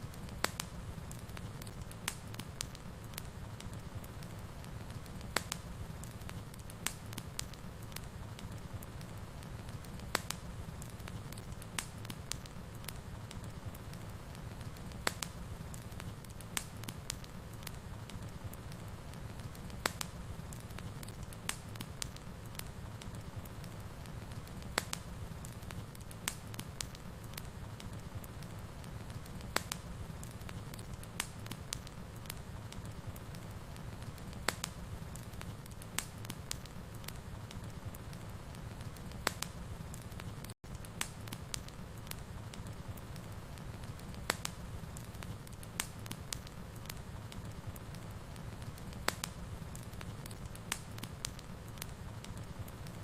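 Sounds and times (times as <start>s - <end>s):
fire crackling and popping: 0.0s - 53.0s
wood fire burning: 0.0s - 53.0s.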